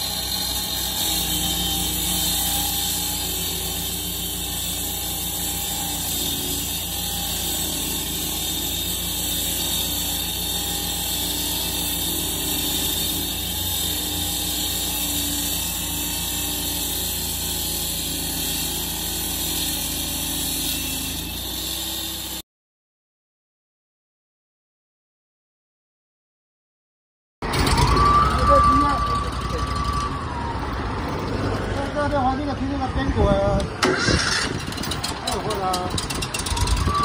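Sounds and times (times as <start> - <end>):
road saw engine running: 0.0 - 22.4, 27.4 - 37.0.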